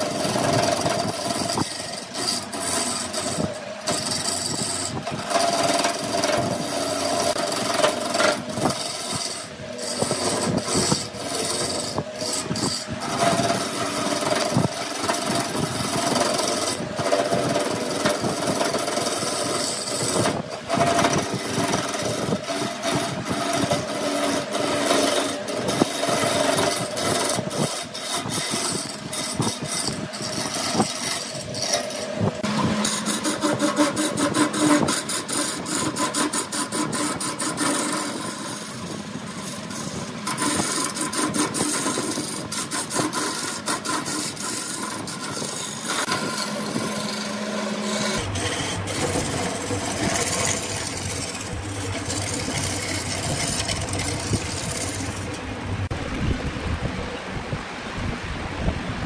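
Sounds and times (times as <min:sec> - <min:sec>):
low machine hum: 0:00.0 - 0:42.8, 0:43.4 - 0:59.0
woodworking tool scraping wood: 0:00.0 - 0:56.1.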